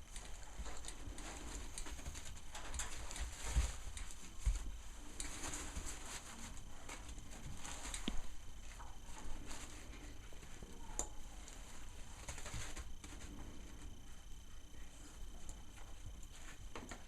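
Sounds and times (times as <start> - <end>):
puppy paws pattering and scratching: 0.0 - 17.0.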